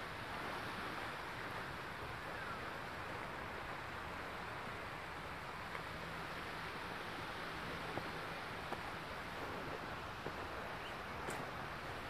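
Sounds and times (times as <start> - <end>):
gentle surf on shore: 0.0 - 12.0
light breeze: 0.0 - 12.0.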